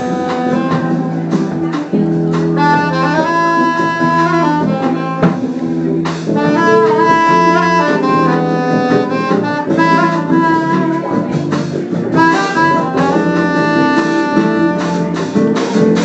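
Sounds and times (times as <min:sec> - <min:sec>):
saxophone playing slow jazz melody: 0:00.0 - 0:16.0.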